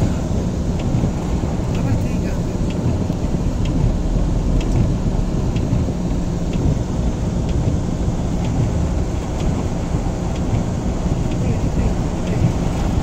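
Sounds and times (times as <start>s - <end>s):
car driving through flood water: 0.0s - 13.0s
heavy rain: 0.0s - 13.0s
faint ticking: 0.3s - 13.0s.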